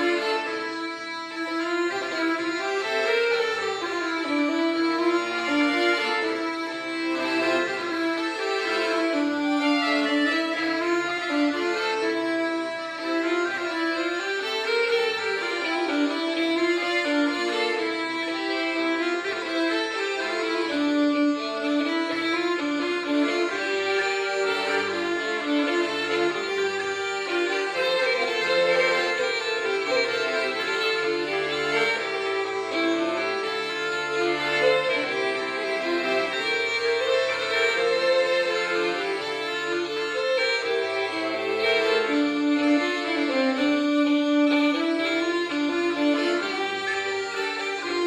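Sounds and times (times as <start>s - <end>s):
bagpipe melody: 0.0s - 48.0s
button accordion: 0.0s - 48.0s
violin: 0.0s - 48.0s.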